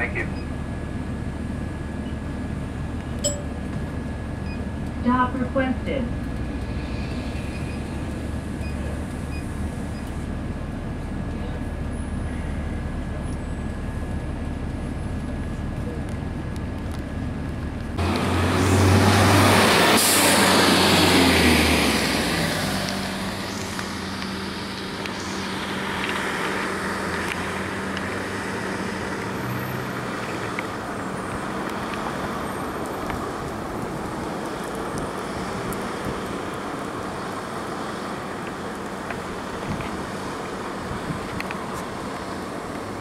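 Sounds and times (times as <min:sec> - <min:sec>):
bus diesel engine drone: 0:00.0 - 0:43.0
traffic noise: 0:00.0 - 0:43.0.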